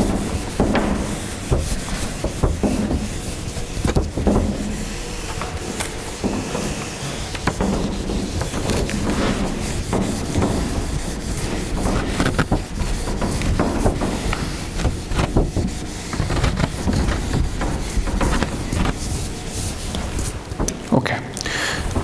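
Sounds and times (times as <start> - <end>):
eraser scrubbing whiteboard: 0.0 - 20.8.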